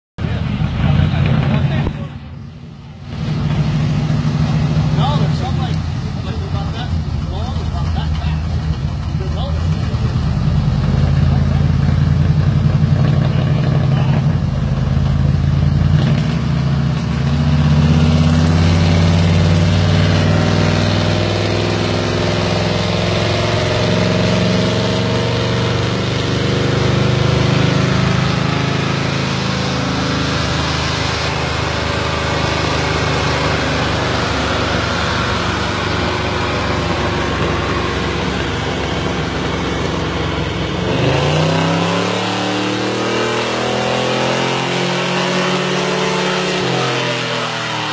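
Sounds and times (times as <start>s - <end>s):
car engine running at low revs: 0.2s - 47.9s.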